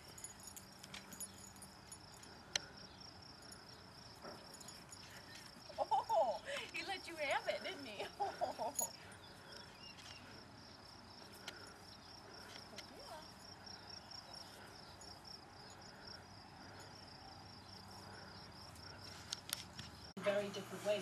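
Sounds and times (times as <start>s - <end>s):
crickets chirring: 0.0s - 20.2s.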